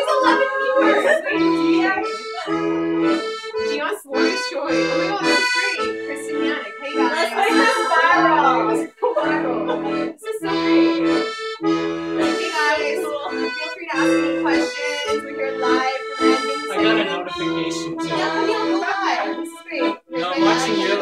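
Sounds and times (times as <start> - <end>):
piano accordion playing folk music: 0.0 - 21.0
voices singing: 0.0 - 21.0.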